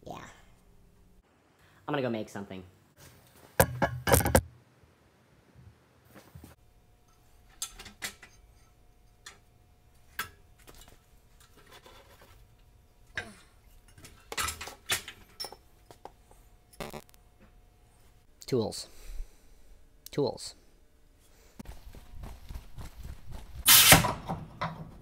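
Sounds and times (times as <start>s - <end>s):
faint steady hum: 0.0s - 23.7s.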